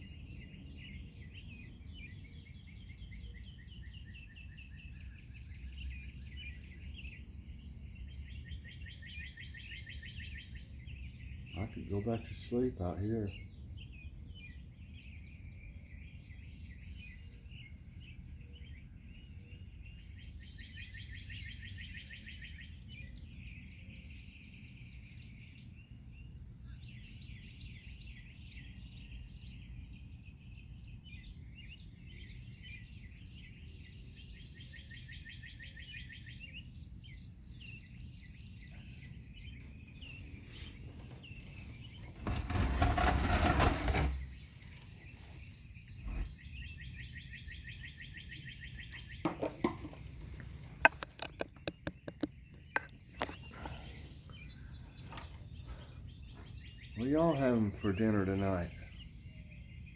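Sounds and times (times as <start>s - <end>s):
songbirds trilling: 0.0s - 59.9s.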